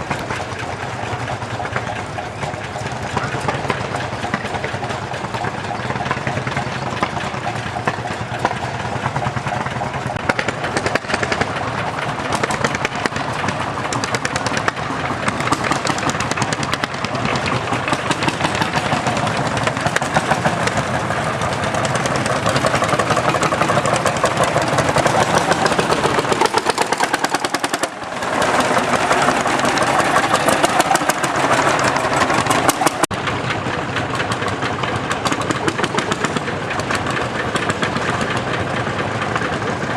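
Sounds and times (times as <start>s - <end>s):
tractor engines knocking: 0.0s - 39.9s.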